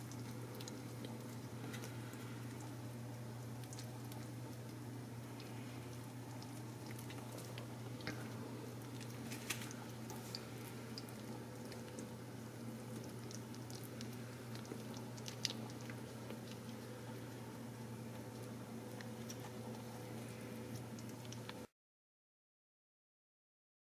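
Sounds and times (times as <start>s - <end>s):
steady low hum: 0.0s - 21.7s.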